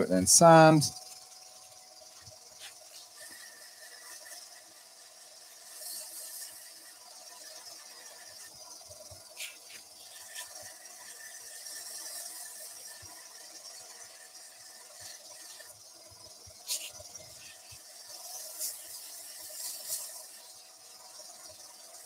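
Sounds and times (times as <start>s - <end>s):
sandpaper hissing on wood: 0.0s - 15.8s, 16.6s - 22.0s
lathe whine: 0.0s - 22.0s.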